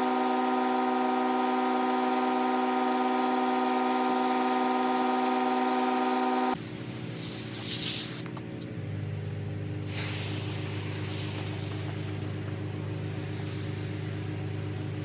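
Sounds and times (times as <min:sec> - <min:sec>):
pressure washer whine: 0:00.0 - 0:08.4, 0:09.0 - 0:15.0.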